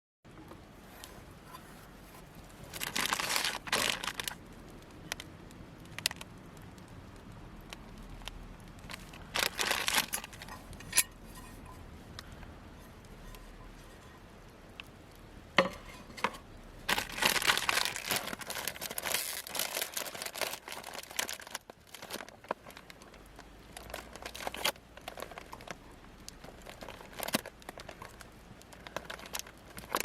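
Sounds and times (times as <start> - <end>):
packaging crinkling and rustling: 0.7 - 6.4, 7.6 - 14.1, 15.6 - 30.0.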